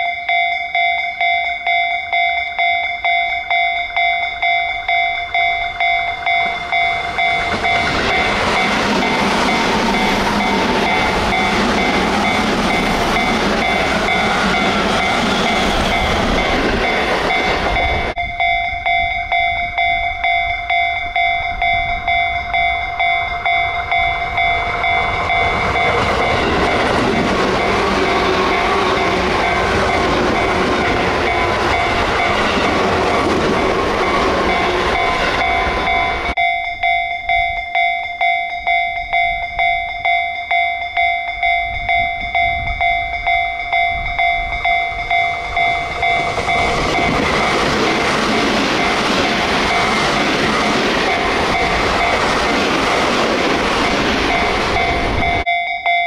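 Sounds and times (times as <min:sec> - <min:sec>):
electric train passing close: 0:00.0 - 0:55.6
level crossing alarm bell: 0:00.0 - 0:56.0.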